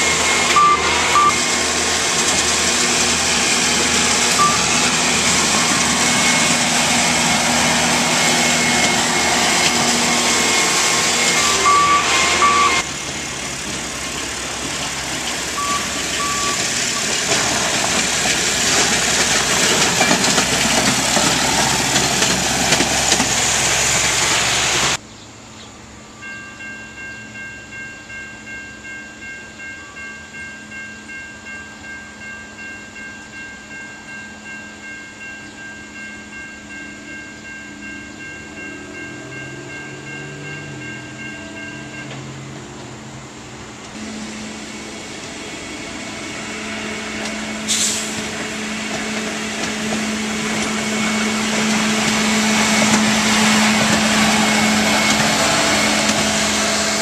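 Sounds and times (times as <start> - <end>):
crossing bell ringing: 0.0 - 25.0, 26.0 - 57.0
diesel engine approaching: 0.0 - 26.2, 37.4 - 57.0
rail motor car passing: 0.0 - 57.0.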